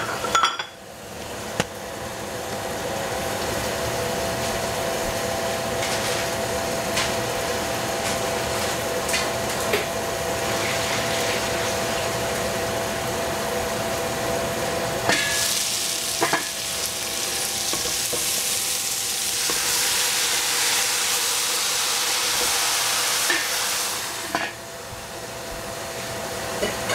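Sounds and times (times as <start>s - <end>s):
onions frying in a pot: 0.0s - 26.9s.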